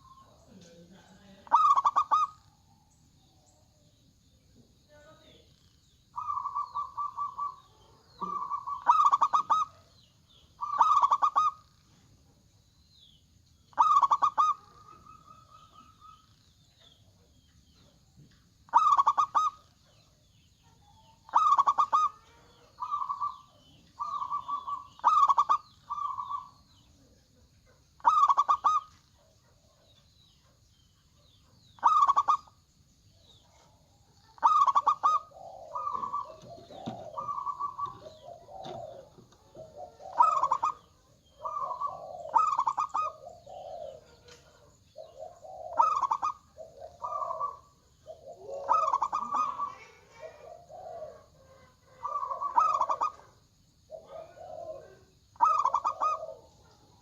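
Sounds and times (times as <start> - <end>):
dove cooing: 0.0 - 3.7, 5.2 - 11.9, 13.7 - 30.4, 31.2 - 32.6, 33.3 - 57.0
small birds chirping: 0.0 - 57.0.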